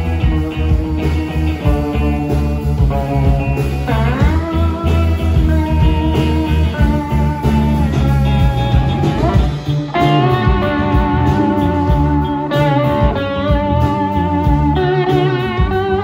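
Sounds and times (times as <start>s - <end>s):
electric guitar lead bending: 0.0s - 16.0s
live rock band playing: 0.0s - 16.0s.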